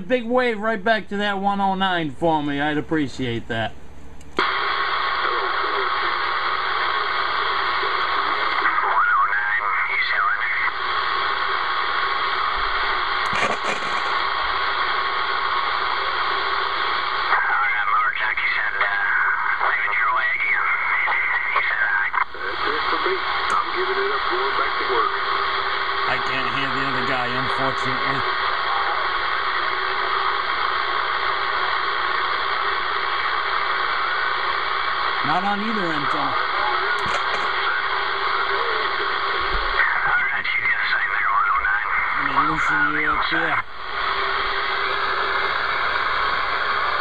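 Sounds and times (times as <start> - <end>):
radio crackle: 4.4 - 47.0
radio static hiss: 4.4 - 47.0.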